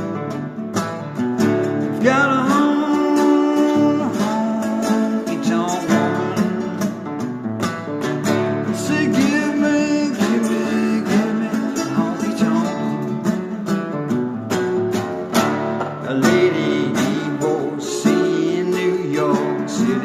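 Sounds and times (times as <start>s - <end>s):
acoustic slide guitar blues: 0.0s - 20.0s.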